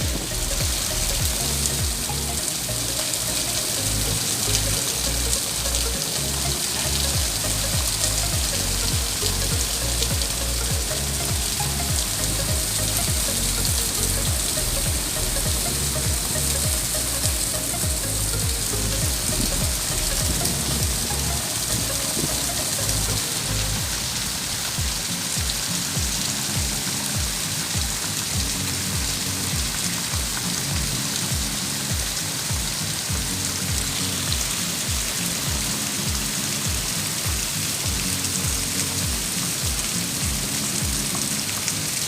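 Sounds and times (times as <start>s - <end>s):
background music with bass line: 0.0s - 42.0s
steady rain falling: 0.0s - 42.0s.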